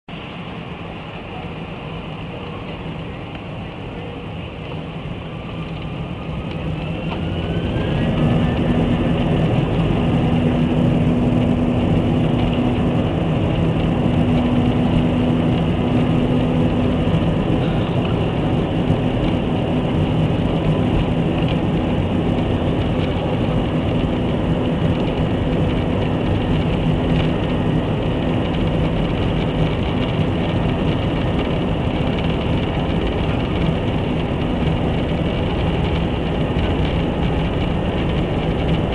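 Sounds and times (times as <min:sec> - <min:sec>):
rumble of engines and wheels: 0:00.0 - 0:38.9
jet engines spooling up: 0:00.2 - 0:38.9.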